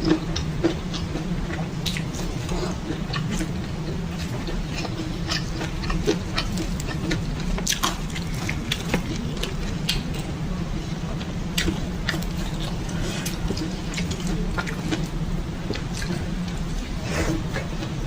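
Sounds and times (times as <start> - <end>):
close chewing mouth sounds: 0.0 - 18.0
steady low hum: 0.0 - 18.0.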